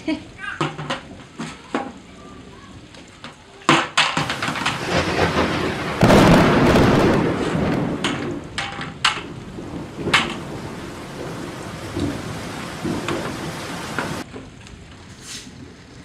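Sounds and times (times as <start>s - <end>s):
rain on concrete: 0.0s - 16.0s
bucket rolling rumble: 3.2s - 16.0s.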